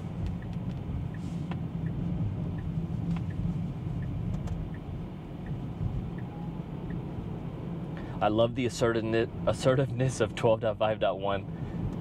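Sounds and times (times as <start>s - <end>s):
road and tyre noise in car: 0.0s - 12.0s.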